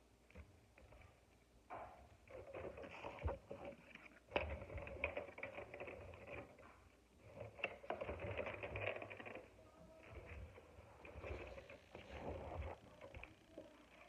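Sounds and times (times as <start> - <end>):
plastic toy pieces rustling: 2.3 - 14.0.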